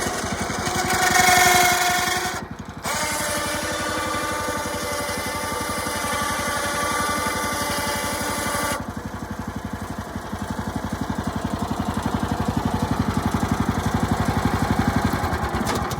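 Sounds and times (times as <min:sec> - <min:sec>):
small engine running: 0:00.0 - 0:15.9.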